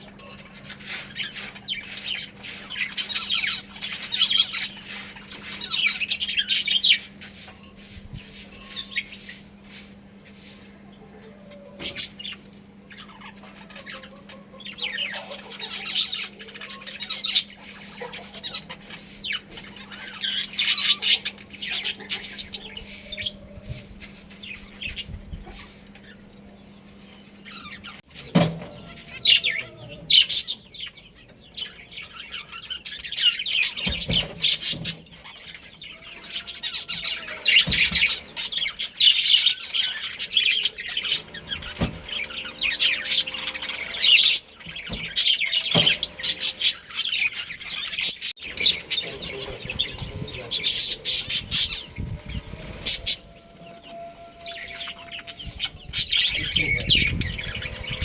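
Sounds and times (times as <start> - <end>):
budgerigars chirping: 0.0 - 7.7, 11.0 - 25.4, 27.1 - 58.0.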